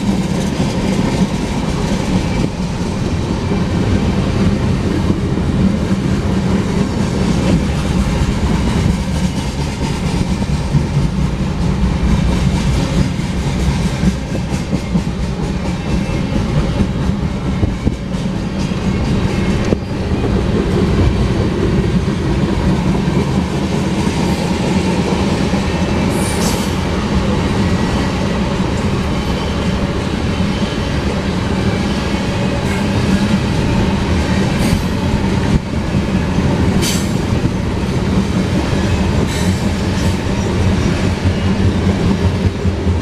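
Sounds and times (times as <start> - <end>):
freight train rumbling past: 0.0 - 43.0.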